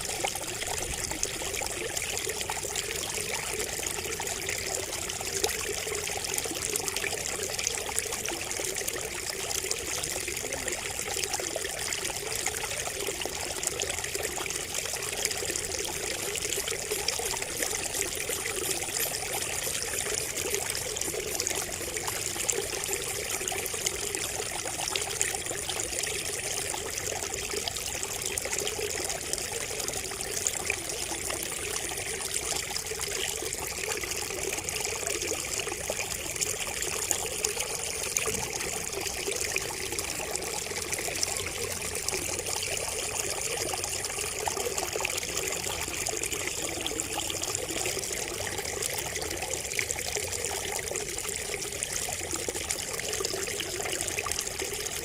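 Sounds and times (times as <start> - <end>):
water pouring from bamboo spout: 0.0 - 55.0.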